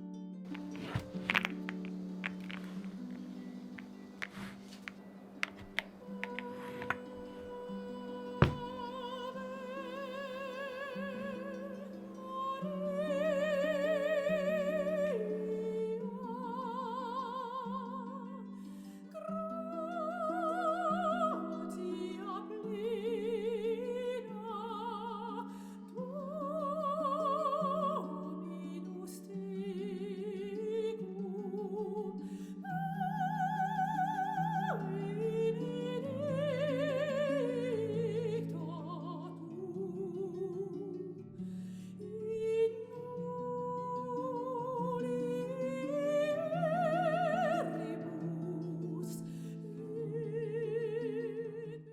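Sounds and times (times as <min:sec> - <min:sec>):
slow classical music: 0:00.0 - 0:51.9.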